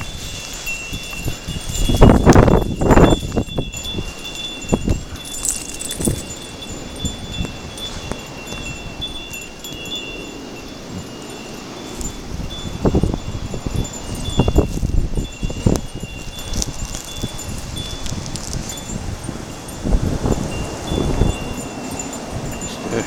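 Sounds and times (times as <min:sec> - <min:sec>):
wind buffeting microphone: 0:00.0 - 0:23.0
wind chimes ringing: 0:00.0 - 0:23.0.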